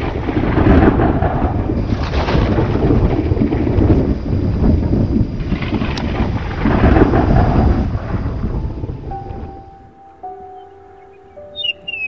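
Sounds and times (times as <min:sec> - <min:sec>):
rolling thunder rumble: 0:00.0 - 0:10.5.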